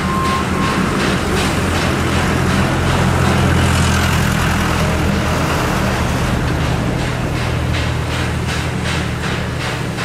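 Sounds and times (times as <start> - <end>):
moving train rumble: 0.0 - 10.0
steam locomotive exhaust beats: 0.0 - 10.0.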